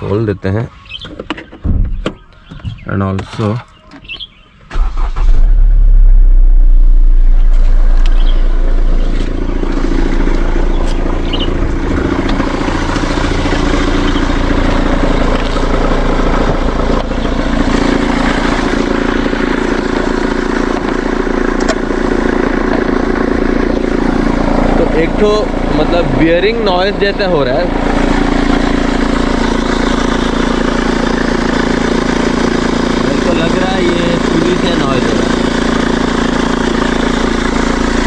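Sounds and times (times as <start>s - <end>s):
car engine starting and idling: 0.0s - 38.0s
bearing whine from belt drive: 4.2s - 38.0s.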